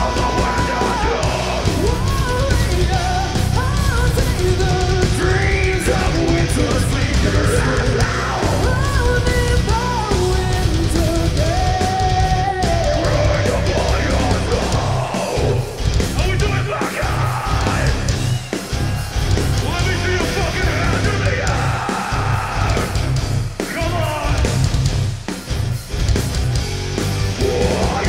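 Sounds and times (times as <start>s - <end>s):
heavy metal band playing live: 0.0s - 28.0s.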